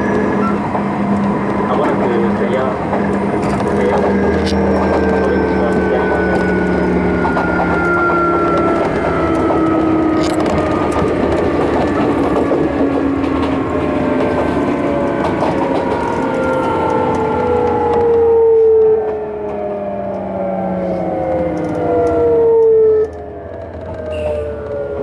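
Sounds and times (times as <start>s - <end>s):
rail running noise: 0.0s - 25.0s
train motors whining: 0.0s - 25.0s.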